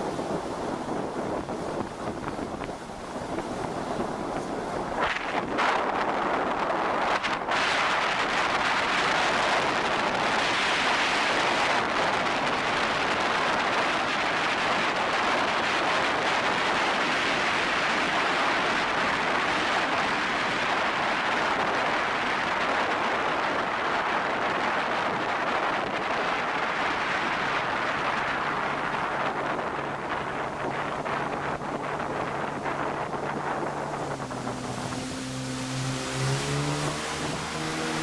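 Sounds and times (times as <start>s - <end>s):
wind and water spray rushing: 0.0s - 38.0s.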